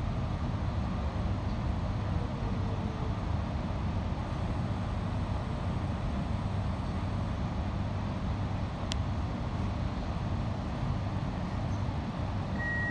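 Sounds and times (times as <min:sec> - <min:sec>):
electric train rumble: 0:00.0 - 0:12.9.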